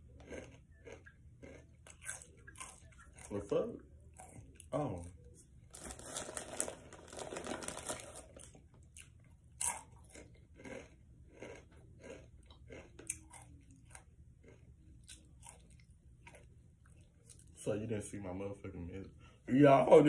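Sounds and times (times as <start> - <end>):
chewing crunchy chips: 0.0 - 17.6.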